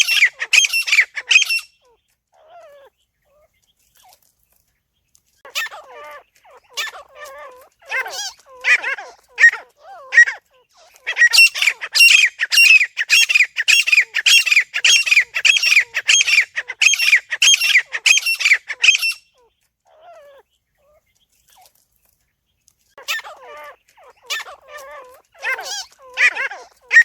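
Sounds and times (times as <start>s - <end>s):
francolin calling: 0.0s - 3.4s, 5.6s - 20.5s, 23.0s - 27.0s.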